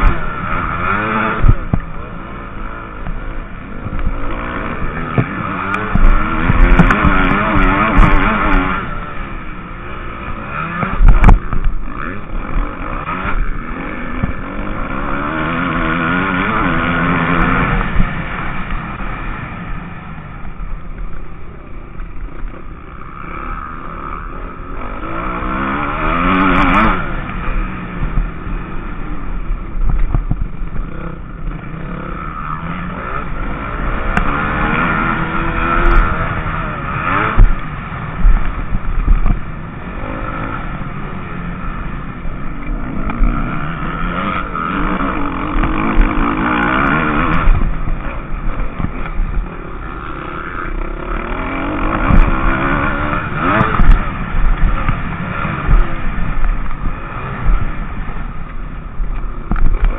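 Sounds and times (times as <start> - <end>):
motocross bike engine revving: 0.0 - 59.9
wind rumble on microphone: 0.0 - 59.9.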